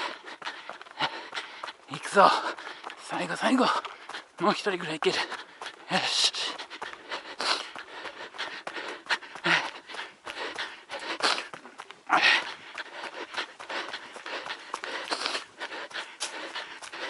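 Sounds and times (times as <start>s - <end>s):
person gasping: 0.0s - 4.4s, 5.0s - 17.0s
person panting: 0.0s - 17.0s
running footsteps: 0.0s - 17.0s.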